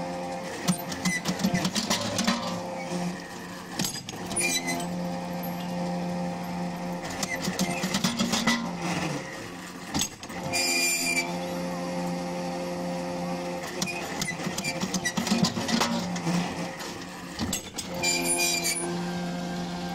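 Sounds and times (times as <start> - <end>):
electric winch motor humming: 0.0 - 19.9.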